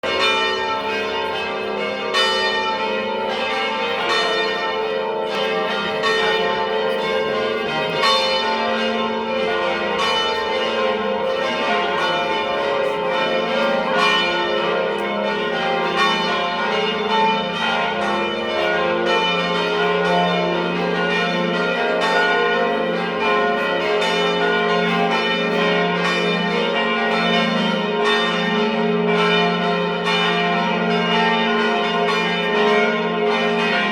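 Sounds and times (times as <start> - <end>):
church bells pealing: 0.0 - 33.9.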